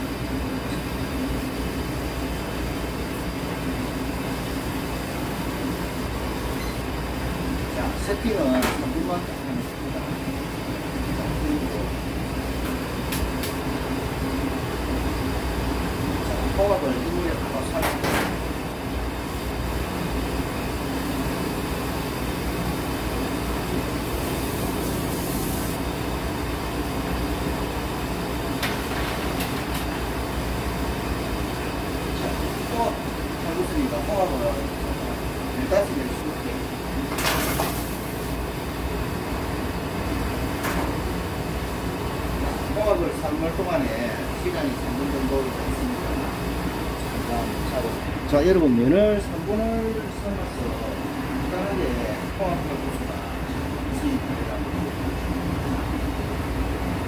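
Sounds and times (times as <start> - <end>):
gas burner roaring: 0.0 - 57.0.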